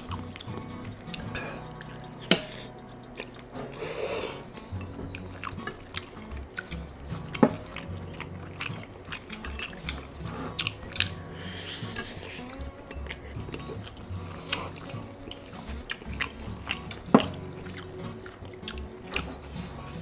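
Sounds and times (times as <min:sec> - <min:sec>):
background music: 0:00.0 - 0:20.0
chewing: 0:00.0 - 0:20.0
utensils clinking against dishes: 0:00.0 - 0:20.0.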